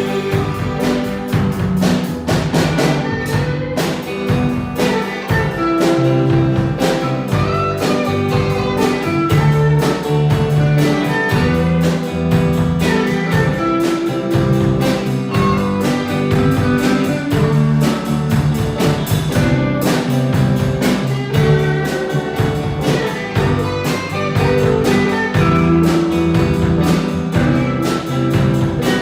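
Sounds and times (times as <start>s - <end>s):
drum-kit beat: 0.0s - 29.0s
guitar: 0.0s - 29.0s
sustained bass notes: 0.0s - 29.0s.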